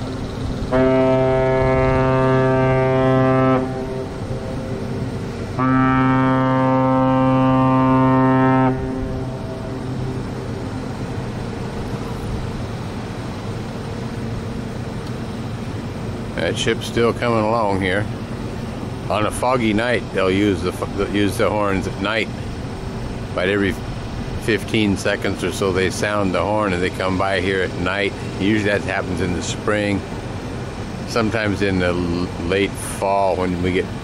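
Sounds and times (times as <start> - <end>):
low ship horn blasts: 0.0 - 31.2.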